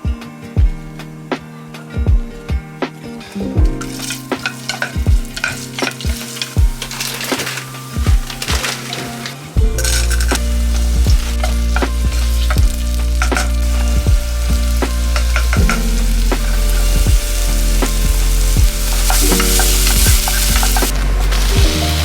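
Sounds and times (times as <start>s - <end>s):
background music with beat: 0.0s - 22.0s
food sizzling in a pan: 3.8s - 22.0s.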